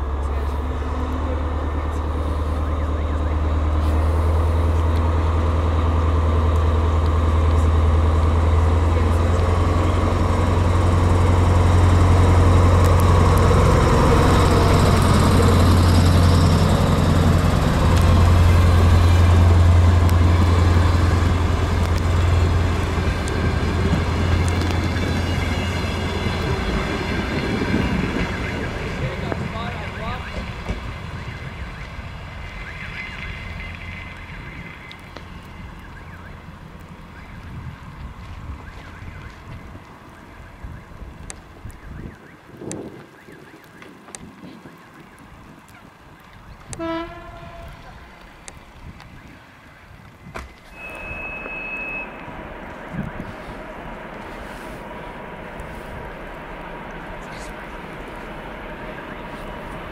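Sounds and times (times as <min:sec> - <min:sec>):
train and rail noise: 0:00.0 - 0:41.8, 0:42.4 - 0:59.9
diesel train engine drone: 0:00.0 - 0:43.1, 0:44.1 - 0:59.9.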